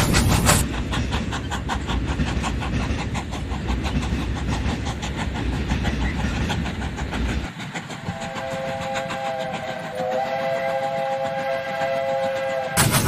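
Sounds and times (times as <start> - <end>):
low rumble of model train: 0.0 - 13.0
rapid clicking of model train: 0.0 - 13.0.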